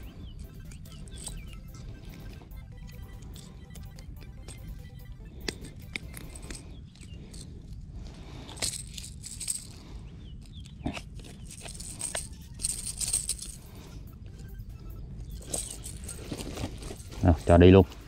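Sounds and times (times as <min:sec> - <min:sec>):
rustling of handling: 0:00.2 - 0:03.6, 0:05.4 - 0:14.5, 0:15.2 - 0:18.0.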